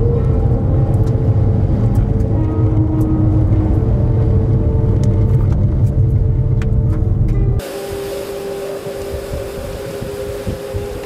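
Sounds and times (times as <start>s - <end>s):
constant hum: 0.0s - 11.0s
wind buffeting microphone: 0.0s - 11.0s.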